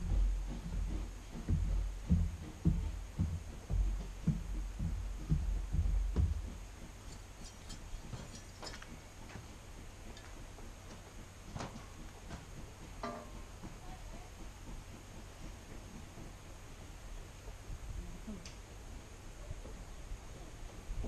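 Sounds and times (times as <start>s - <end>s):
train passing with low thumps: 0.0s - 21.0s.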